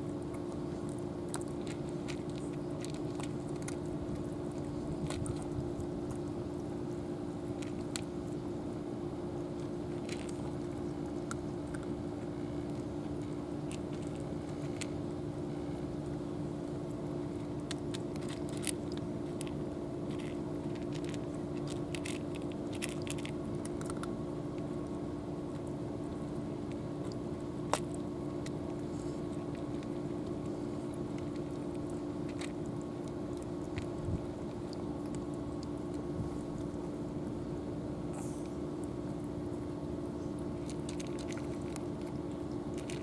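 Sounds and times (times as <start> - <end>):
cat chewing crunches: 0.0 - 43.0
steady low hum: 0.0 - 43.0.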